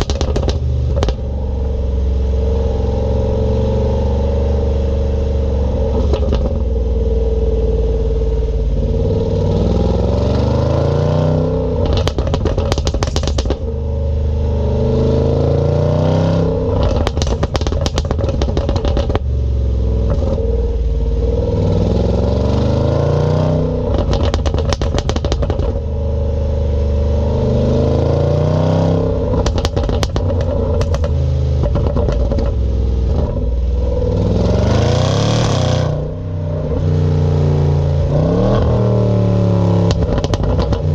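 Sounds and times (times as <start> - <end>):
exhaust popping and crackling: 0.0 - 3.3, 4.6 - 10.0, 11.5 - 15.1, 16.4 - 37.0, 37.7 - 40.9
car engine revving: 0.0 - 40.9.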